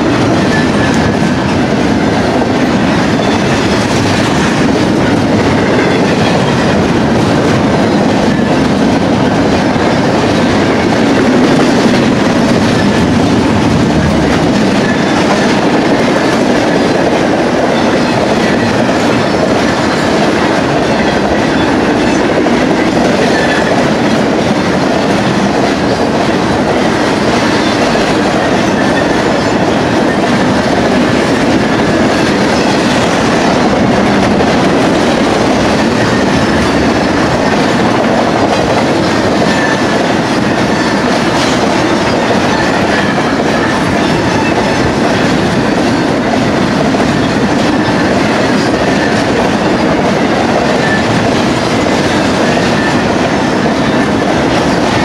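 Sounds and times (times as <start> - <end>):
steel wheels running on rails: 0.0 - 55.0.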